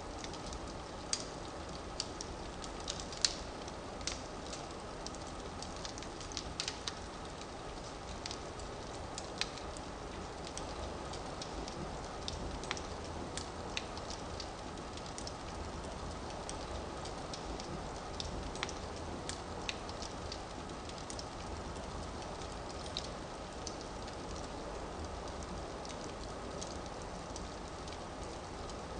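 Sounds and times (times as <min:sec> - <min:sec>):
firewood burning with crackles: 0:00.0 - 0:28.9.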